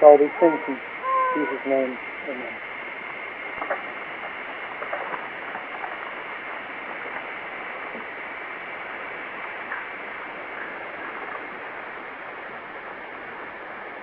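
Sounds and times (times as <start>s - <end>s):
faint high whine: 0.0s - 14.0s
recording hiss: 0.0s - 14.0s.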